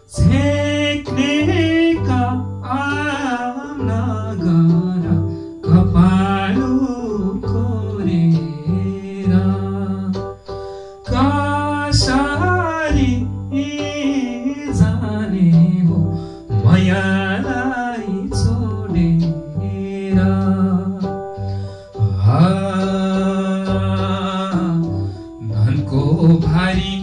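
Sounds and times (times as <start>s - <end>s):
electronic keyboard accompaniment: 0.0s - 27.0s
man singing: 0.0s - 27.0s.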